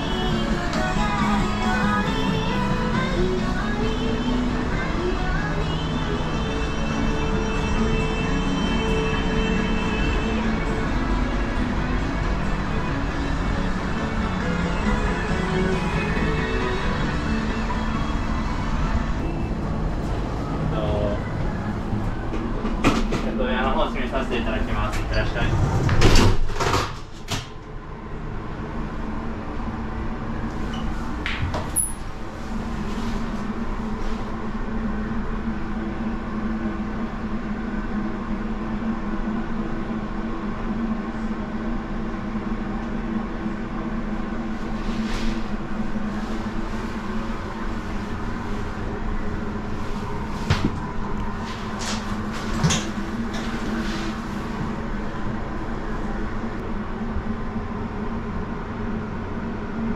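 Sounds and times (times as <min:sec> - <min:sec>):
low hum with faint tone: 0:00.0 - 0:59.9.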